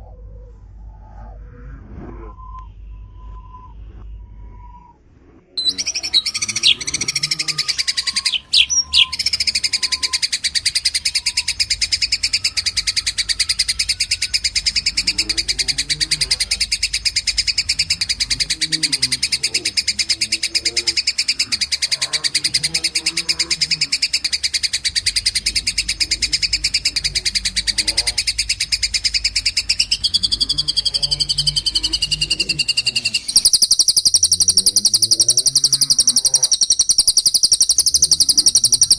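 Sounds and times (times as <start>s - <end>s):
louder bird trill: 5.6s - 38.9s
songbird high trill: 5.6s - 38.9s.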